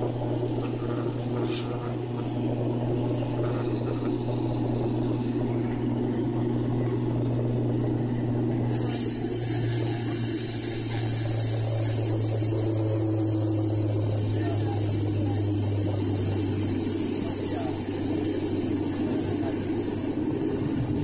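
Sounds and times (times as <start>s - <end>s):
rushing air hiss: 0.0s - 6.0s, 8.6s - 21.0s
airliner engines droning: 0.0s - 21.0s.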